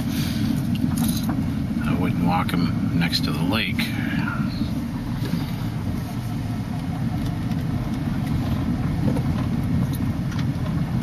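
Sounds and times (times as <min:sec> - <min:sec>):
car rumbling on unpaved road: 0:00.0 - 0:11.0.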